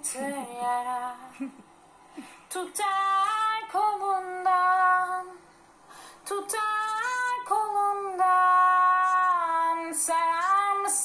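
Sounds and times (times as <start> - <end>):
woman singing unaccompanied: 0.0 - 1.5, 2.5 - 5.4, 6.2 - 11.0.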